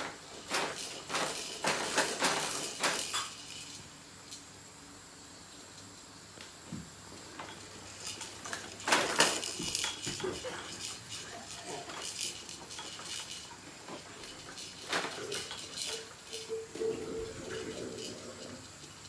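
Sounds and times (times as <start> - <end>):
plastic toys clicking and clattering: 0.0 - 4.4, 7.3 - 19.0.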